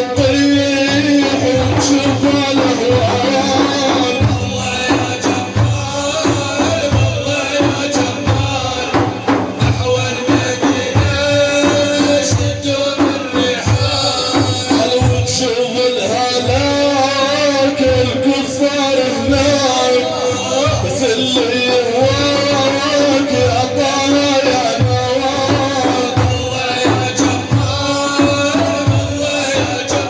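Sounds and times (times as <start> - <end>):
hand percussion beat: 0.0 - 30.0.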